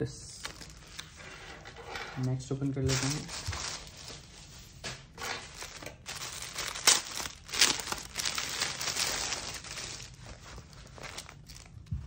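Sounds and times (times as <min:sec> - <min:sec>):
plastic bag crinkling: 0:00.2 - 0:01.2, 0:02.2 - 0:04.6, 0:05.2 - 0:12.0.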